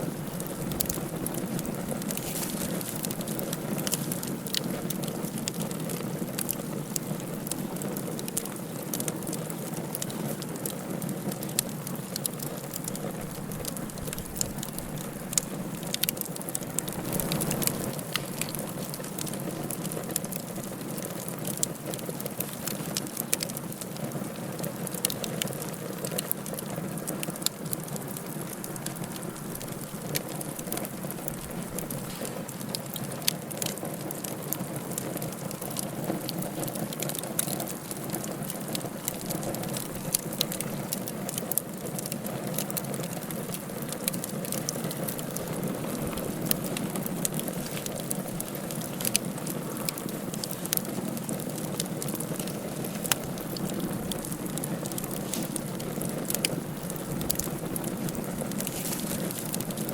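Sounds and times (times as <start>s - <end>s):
fire crackling and popping: 0.0s - 59.9s
fire hissing: 0.0s - 59.9s.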